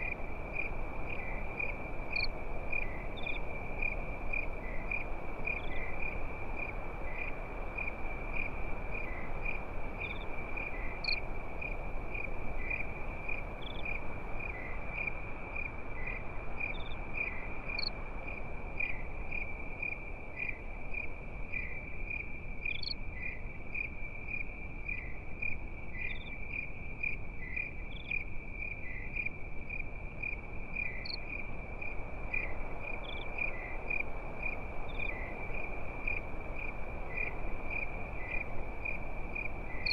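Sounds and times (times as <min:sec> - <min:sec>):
campfire hiss and crackle: 0:00.0 - 0:39.9
crickets chirping: 0:00.0 - 0:39.9.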